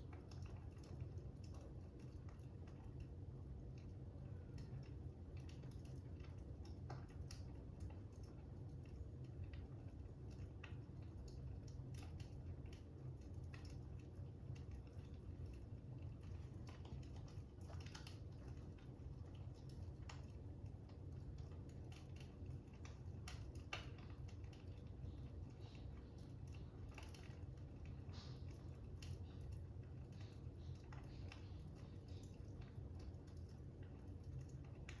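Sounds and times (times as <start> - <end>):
fire crackling: 0.0 - 35.0.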